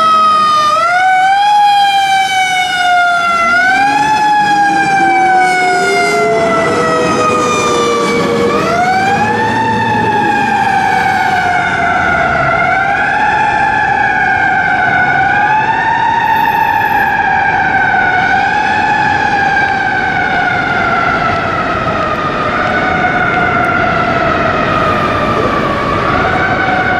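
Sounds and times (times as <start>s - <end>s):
fire engine siren wailing: 0.0s - 26.9s
lower siren tone: 0.0s - 26.9s.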